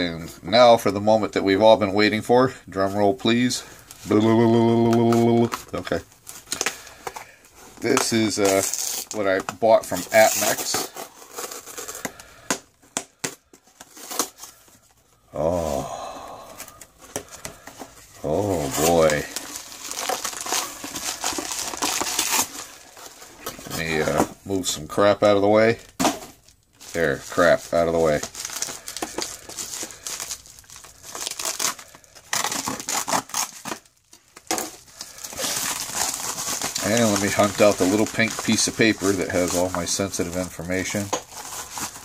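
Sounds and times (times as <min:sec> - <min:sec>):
plastic mailer crinkling: 0:00.8 - 0:42.0
cardboard and tape ripping: 0:03.4 - 0:12.6, 0:13.2 - 0:14.7, 0:16.7 - 0:24.7, 0:25.9 - 0:42.0.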